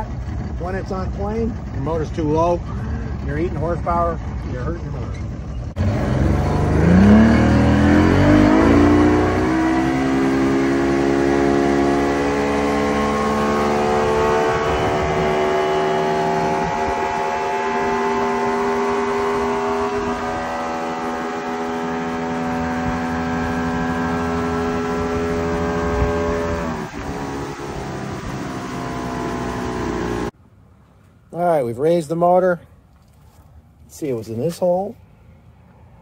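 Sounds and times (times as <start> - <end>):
outboard motor running at high speed: 0.0 - 30.3.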